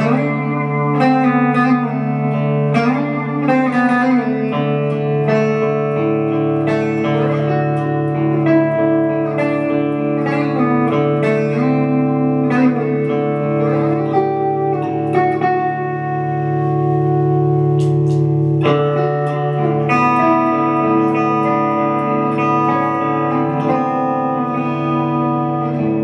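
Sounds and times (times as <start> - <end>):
electric guitar notes and chords: 0.0 - 26.0.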